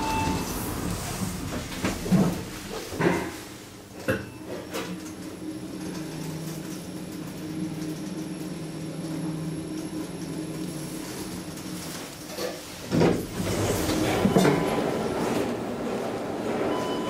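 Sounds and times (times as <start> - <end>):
elevator car humming: 0.0 - 17.0.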